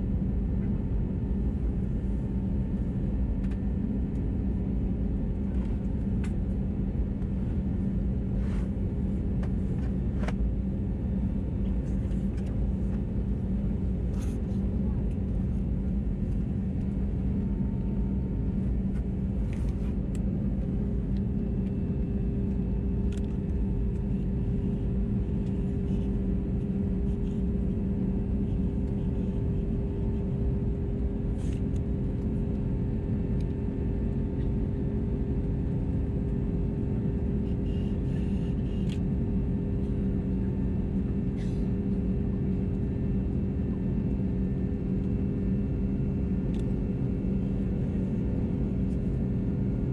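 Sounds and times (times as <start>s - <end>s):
aircraft cabin engine rumble: 0.0s - 49.9s.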